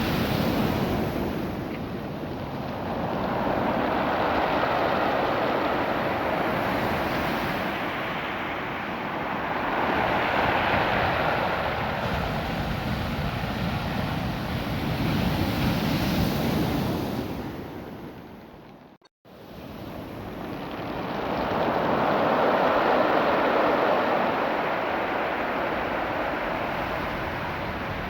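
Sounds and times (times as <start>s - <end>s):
surf washing over pebbles: 0.0s - 17.0s, 19.5s - 28.0s.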